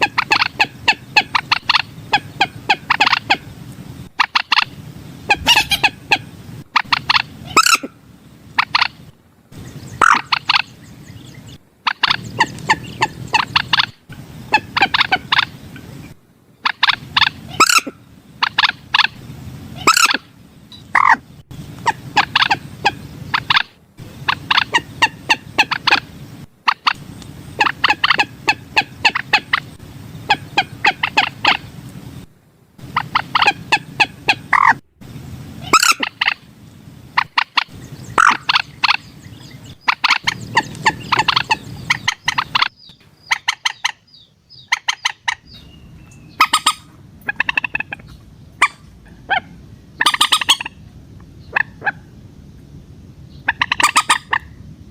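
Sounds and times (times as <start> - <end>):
moorhen clucking calls: 0.0 - 34.9, 35.6 - 52.6, 53.2 - 54.9.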